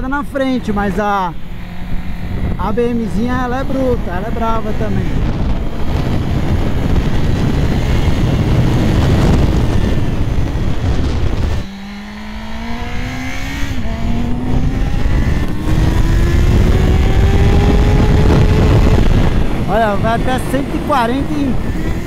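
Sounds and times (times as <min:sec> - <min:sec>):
motorcycle accelerating: 0:00.0 - 0:22.0
wind rushing: 0:00.0 - 0:22.0.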